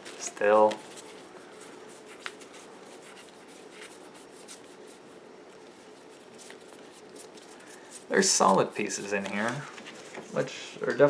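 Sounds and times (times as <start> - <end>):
cards sliding and rustling: 0.0 - 10.6
faint steady hum: 0.0 - 11.0.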